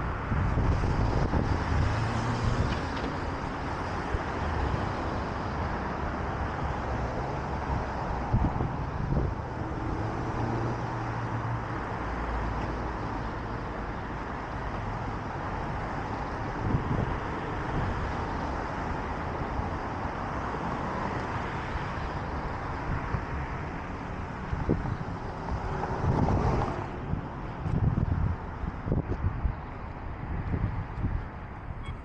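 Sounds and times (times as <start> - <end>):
street traffic noise: 0.0 - 32.0
vehicle engine hum: 0.0 - 32.0.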